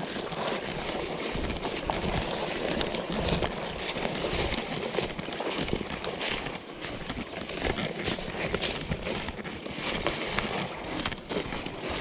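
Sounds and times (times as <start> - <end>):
dry grass rustling: 0.0 - 12.0
footsteps crunching: 0.0 - 12.0.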